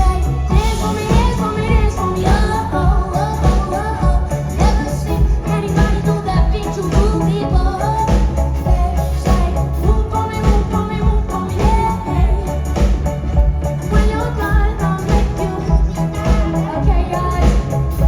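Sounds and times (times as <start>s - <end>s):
live pop music with singing: 0.0s - 18.0s.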